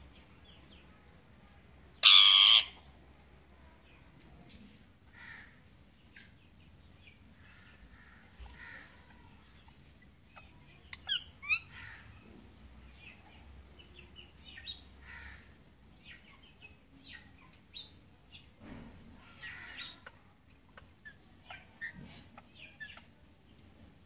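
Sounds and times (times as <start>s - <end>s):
birds chirping: 3.8s - 18.6s, 19.2s - 24.0s.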